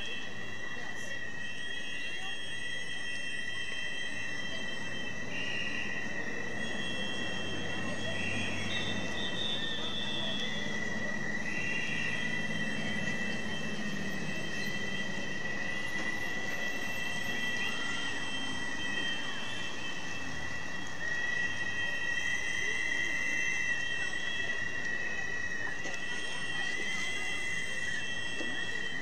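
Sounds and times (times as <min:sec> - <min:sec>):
high-pitched whistling tones: 0:00.0 - 0:29.0
marching crowd: 0:00.0 - 0:29.0.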